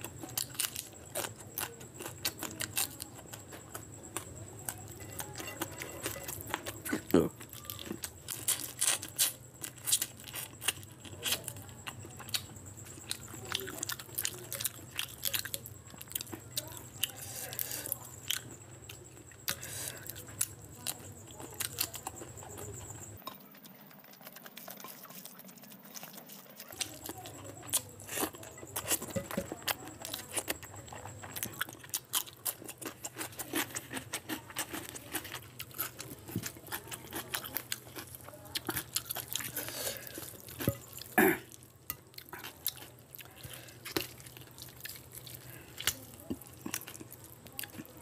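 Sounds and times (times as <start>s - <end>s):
chewing and mouth smacks: 0.0s - 48.0s.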